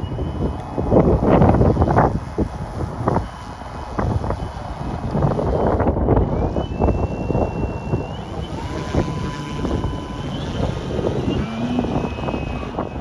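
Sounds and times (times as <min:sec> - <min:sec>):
model plane motor whine: 0:00.0 - 0:13.0
wind buffeting microphone: 0:00.0 - 0:13.0.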